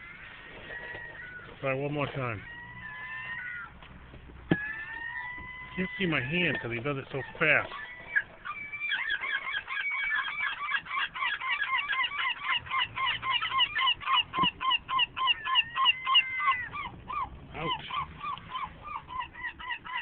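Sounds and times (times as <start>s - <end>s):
seagulls calling: 0.0s - 20.0s.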